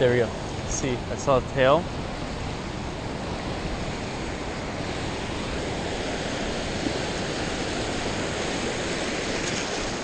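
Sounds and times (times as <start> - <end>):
small waves breaking on beach: 0.0 - 10.0.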